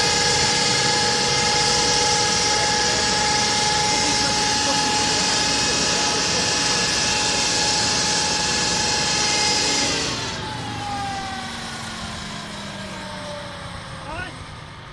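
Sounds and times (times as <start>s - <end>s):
flail mulcher whining: 0.0s - 14.9s
tractor engine running: 0.0s - 14.9s.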